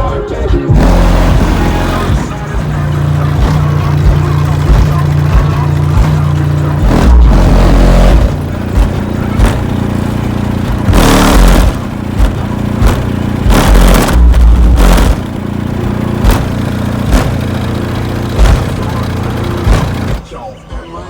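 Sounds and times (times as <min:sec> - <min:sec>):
rap beat through car subwoofer: 0:00.0 - 0:21.0.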